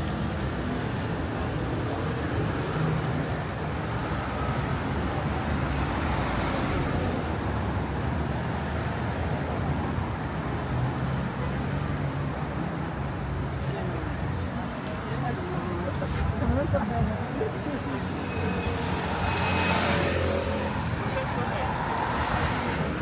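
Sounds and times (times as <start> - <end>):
road traffic hum: 0.0 - 23.0.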